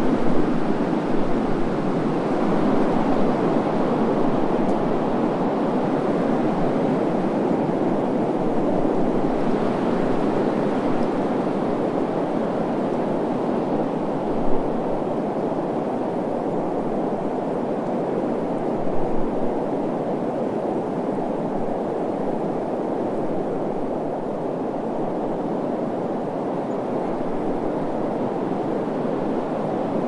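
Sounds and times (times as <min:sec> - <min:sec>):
rushing wind: 0:00.0 - 0:30.0
wind gusts: 0:00.0 - 0:30.0.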